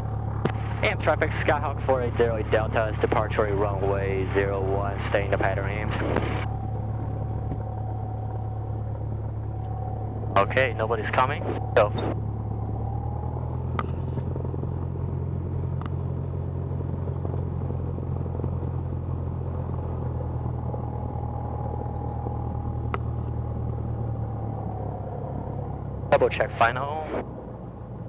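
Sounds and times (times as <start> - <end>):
airplane engine drone: 0.0 - 28.0
faint steady whine: 0.0 - 28.0.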